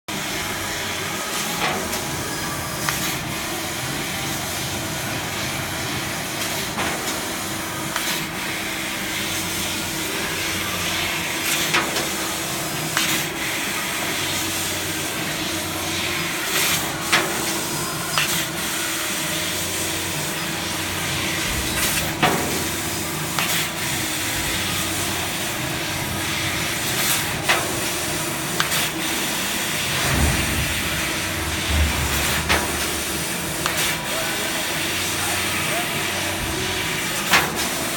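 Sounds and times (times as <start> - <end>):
laser cutter hissing: 0.2 - 37.9.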